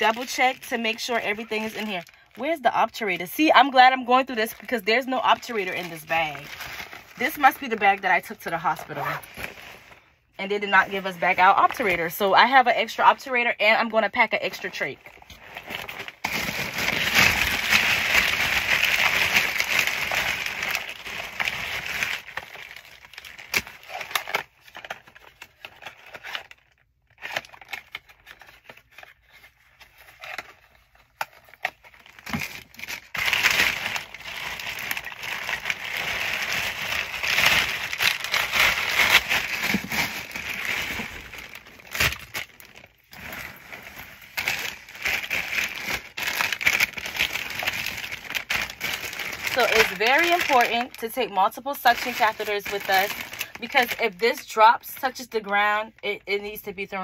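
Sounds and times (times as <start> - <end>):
plastic bag crinkling: 0.0 - 2.5, 3.5 - 12.3, 14.4 - 55.2.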